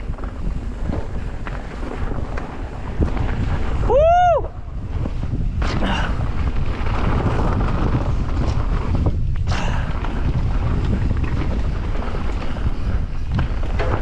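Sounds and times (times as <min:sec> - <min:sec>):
bike clicks and rattles: 0:00.0 - 0:03.9, 0:04.7 - 0:14.0
wind buffeting microphone: 0:00.0 - 0:14.0.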